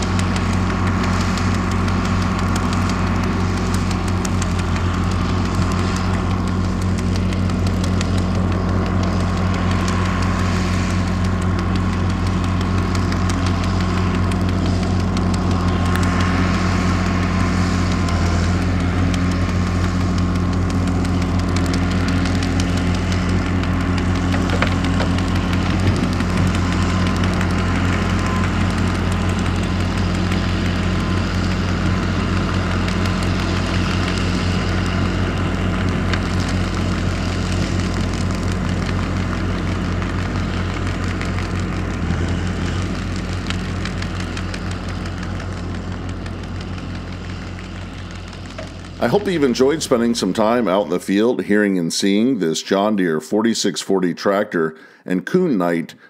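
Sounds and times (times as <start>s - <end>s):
manure spreader throwing manure: 0.0s - 53.5s
tractor diesel engine droning: 0.0s - 56.0s.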